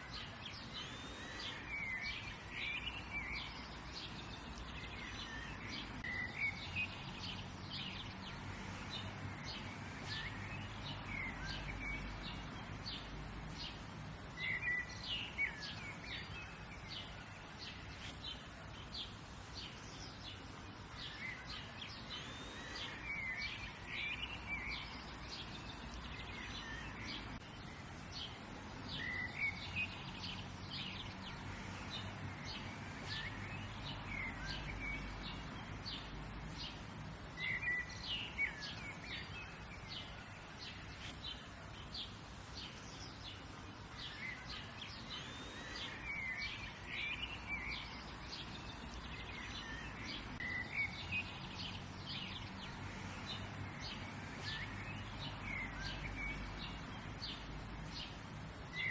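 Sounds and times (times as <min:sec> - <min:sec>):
birds chirping and singing: 0:00.0 - 0:58.9.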